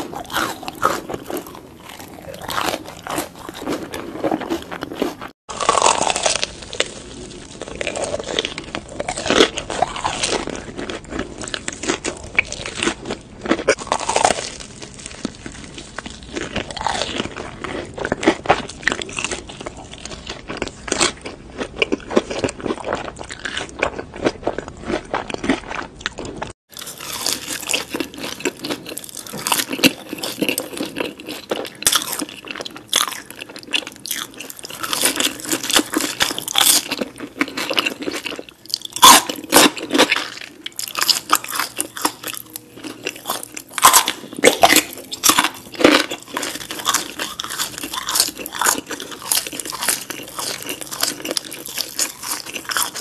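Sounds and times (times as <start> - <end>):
crunching bites: 0.0 - 53.0
wet chewing: 0.0 - 53.0.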